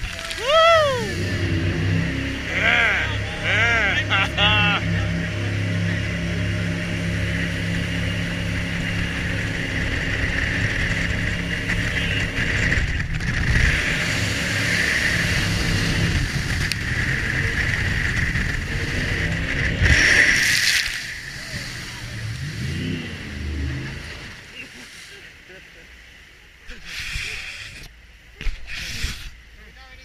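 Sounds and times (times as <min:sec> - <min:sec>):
boat engine running: 0:00.0 - 0:29.6
rushing water and wind: 0:00.0 - 0:30.0.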